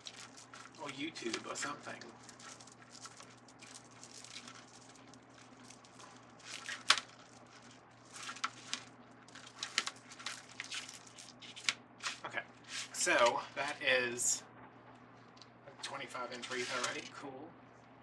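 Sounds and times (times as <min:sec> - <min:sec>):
plastic mesh rustling and crinkling: 0:00.0 - 0:13.8, 0:16.3 - 0:17.2.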